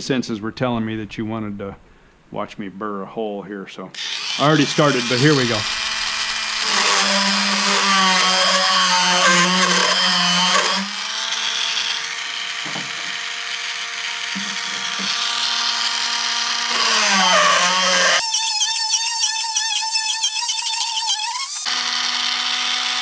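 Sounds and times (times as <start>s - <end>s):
rotary tool motor whining: 4.0s - 23.0s.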